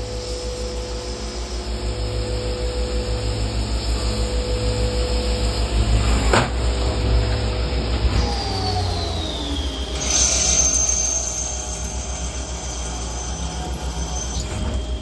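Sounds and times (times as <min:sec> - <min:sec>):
lathe machine hum and whine: 0:00.0 - 0:15.0.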